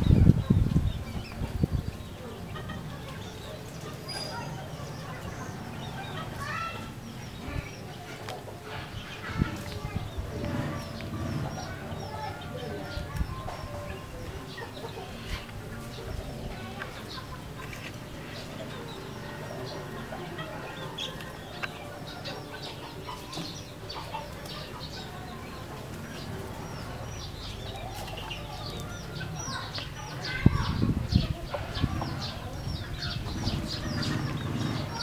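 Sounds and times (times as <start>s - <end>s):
chickens clucking softly: 0.0s - 35.0s.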